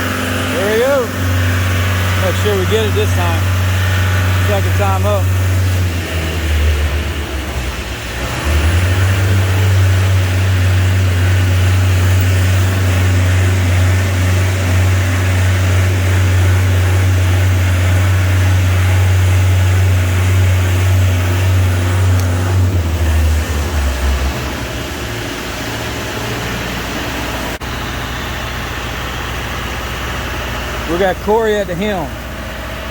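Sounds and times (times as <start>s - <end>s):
boom lift engine droning: 0.0s - 32.9s.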